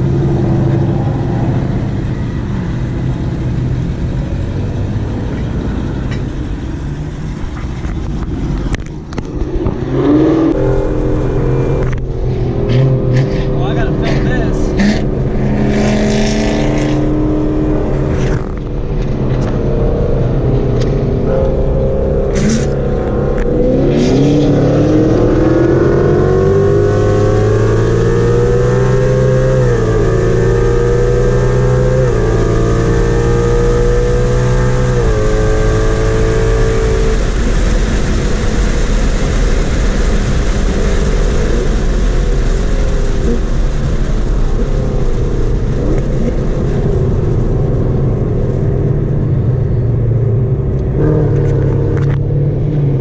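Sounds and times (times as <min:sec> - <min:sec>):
car engine accelerating: 0:00.0 - 0:53.0
road and wind noise: 0:00.0 - 0:53.0.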